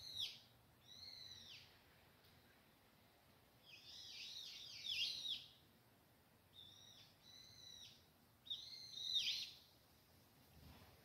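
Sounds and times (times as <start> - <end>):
songbird singing: 0.0 - 5.7, 6.4 - 10.8.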